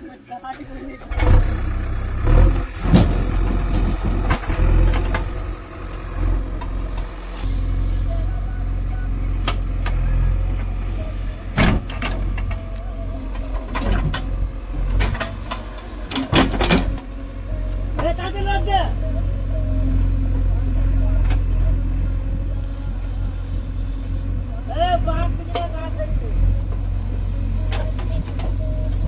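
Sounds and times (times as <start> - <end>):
diesel earth-moving machinery rumbling: 0.0 - 29.0.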